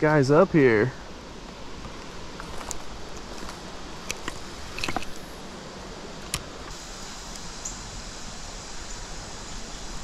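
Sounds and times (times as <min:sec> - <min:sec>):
river water running over falls: 0:00.0 - 0:10.0.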